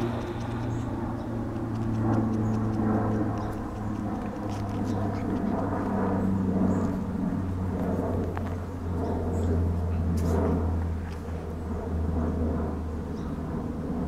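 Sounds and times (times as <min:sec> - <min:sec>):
motor droning low: 0:00.0 - 0:14.0.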